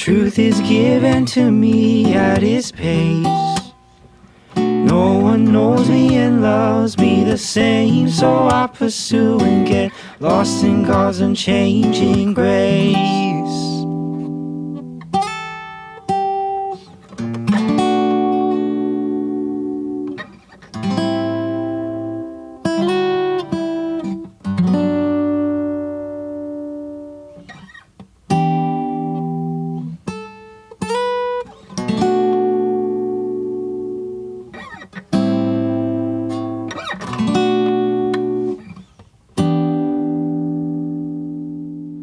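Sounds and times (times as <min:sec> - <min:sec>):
guitar playing slow chords: 0:00.0 - 0:42.0.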